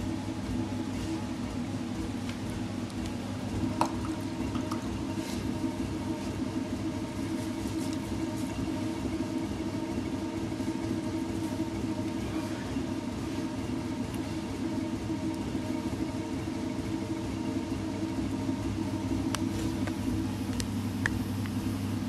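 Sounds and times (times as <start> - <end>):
potter's wheel humming: 0.0 - 22.0.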